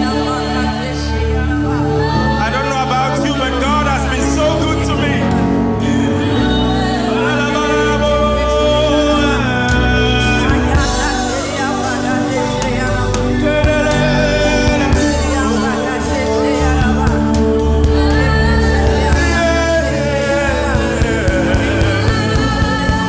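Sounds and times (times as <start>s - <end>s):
gospel band playing: 0.0s - 23.0s
people singing: 0.0s - 23.0s.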